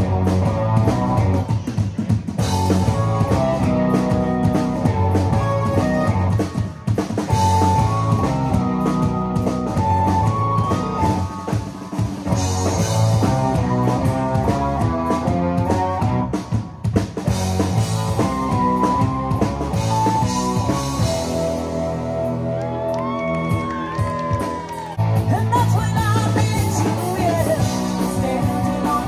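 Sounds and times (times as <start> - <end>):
drum kit: 0.0 - 29.0
electric bass: 0.0 - 29.0
electric guitars riffing: 0.0 - 29.0.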